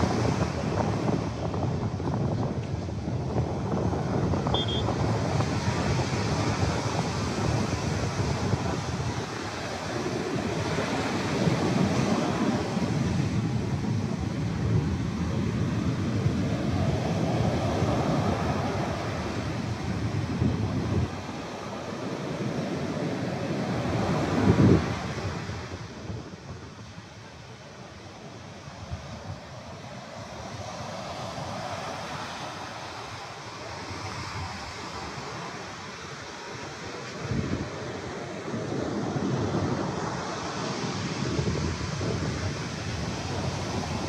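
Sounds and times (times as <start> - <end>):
wind rumbling on microphone: 0.0 - 44.0
wave foam hissing up sand: 5.0 - 44.0.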